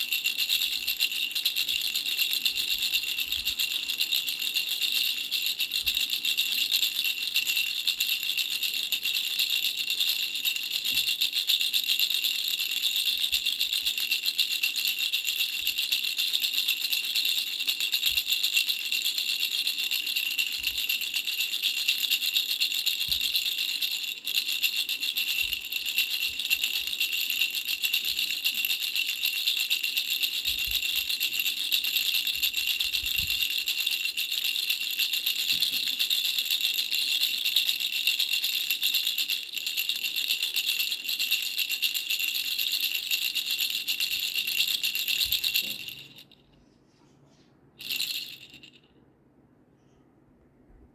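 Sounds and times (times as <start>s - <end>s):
baby bell rattle jingling: 0.0s - 46.5s, 47.8s - 48.9s.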